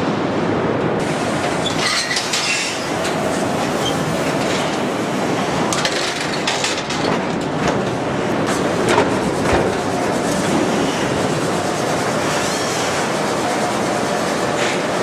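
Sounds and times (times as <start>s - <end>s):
factory machinery din: 0.0s - 15.0s.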